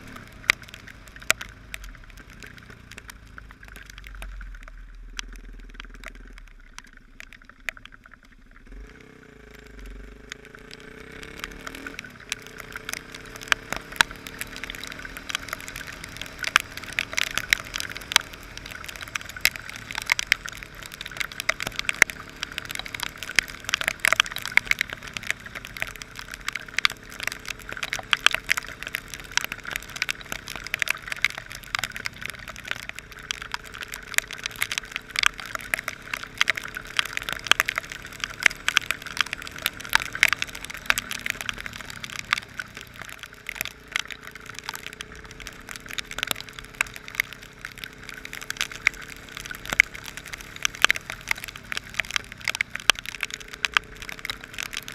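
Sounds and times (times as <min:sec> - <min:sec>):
heavy rain pelting camera: 0:00.0 - 0:54.9
motorcycle engine running: 0:00.0 - 0:54.9.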